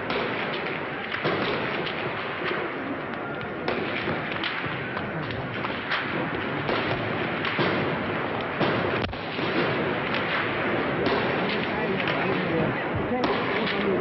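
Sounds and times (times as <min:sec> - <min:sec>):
sharp cracks: 0:00.0 - 0:14.0.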